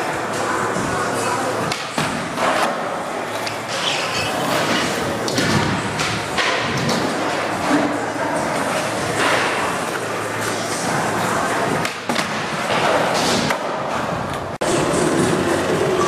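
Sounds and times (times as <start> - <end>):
skateboard wheels rolling on concrete: 0.0 - 16.0.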